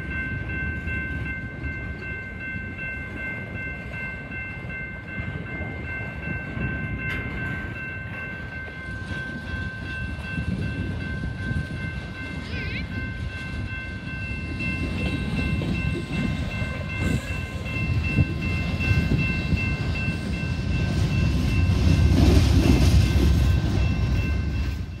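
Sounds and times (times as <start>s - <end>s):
high-pitched ringing tones: 0.0s - 22.2s
train wheels clattering on rail: 0.0s - 25.0s.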